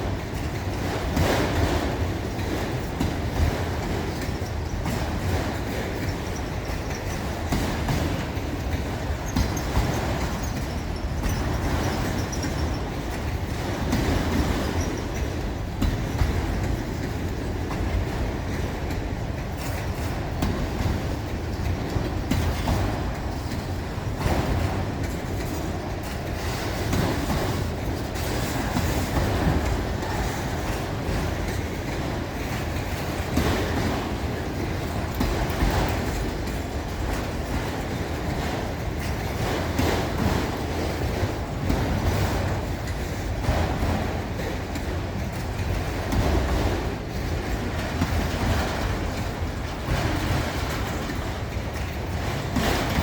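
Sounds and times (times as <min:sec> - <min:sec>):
train wheels clacking on rails: 0:00.0 - 0:53.0.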